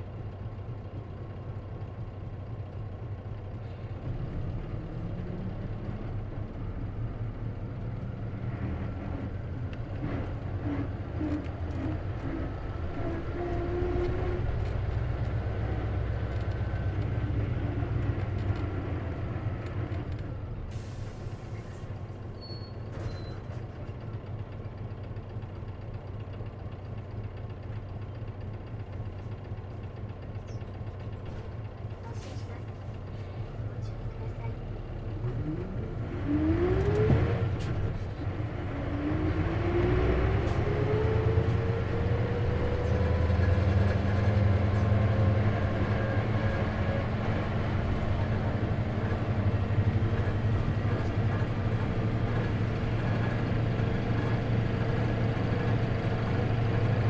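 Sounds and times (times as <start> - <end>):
bus diesel engine pulling: 0.0 - 57.0.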